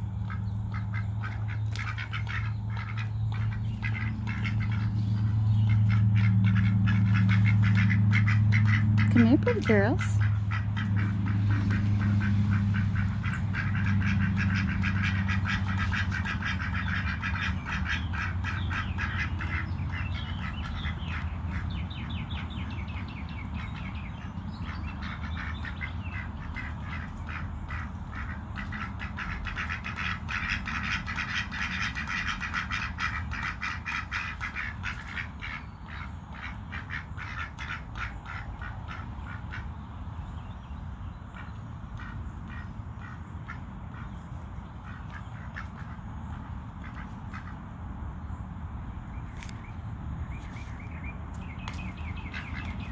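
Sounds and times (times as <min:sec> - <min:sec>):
ducks quacking: 0:00.2 - 0:39.8, 0:41.3 - 0:47.6, 0:51.5 - 0:52.9.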